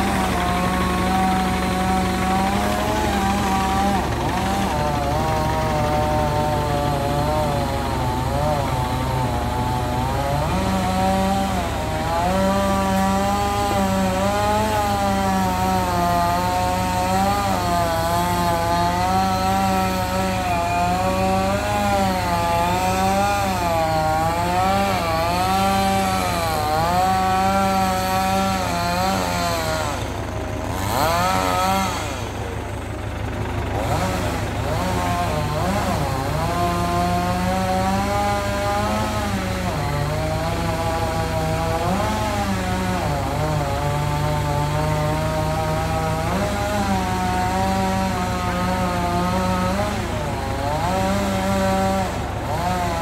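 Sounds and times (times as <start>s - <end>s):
crane engine running: 0.0s - 53.0s.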